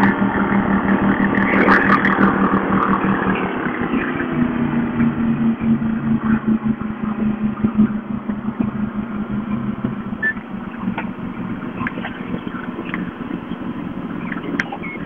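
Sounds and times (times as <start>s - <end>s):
speedboat engine humming: 0.0s - 15.0s.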